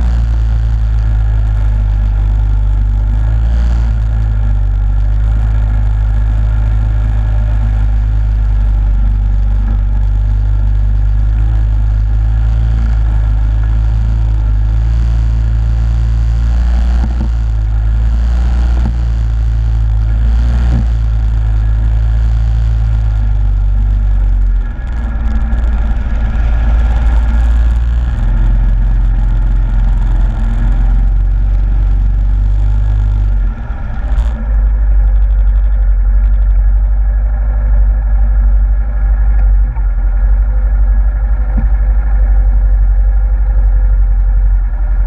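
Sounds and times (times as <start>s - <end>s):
quad bike engine under throttle: 0.0s - 45.0s.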